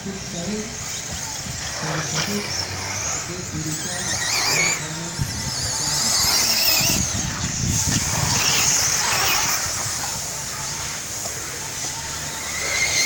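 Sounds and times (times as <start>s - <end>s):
radio-controlled car motors whining: 0.0s - 13.0s.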